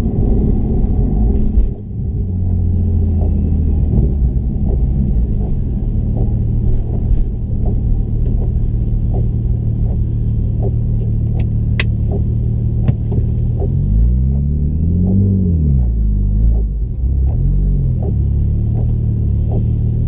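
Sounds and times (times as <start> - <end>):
car engine idling with stumble: 0.0 - 20.0
engine revving: 0.0 - 20.0.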